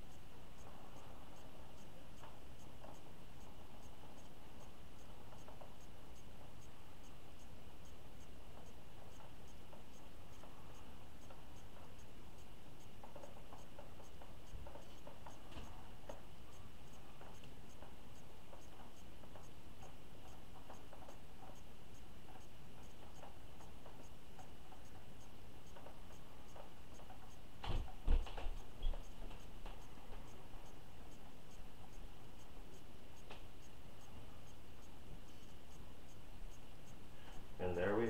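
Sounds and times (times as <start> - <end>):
faint even ticking: 0.0 - 38.0.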